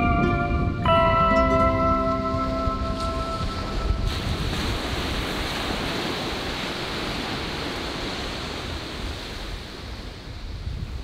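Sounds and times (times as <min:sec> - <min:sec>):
surf breaking on beach: 0:02.2 - 0:11.0.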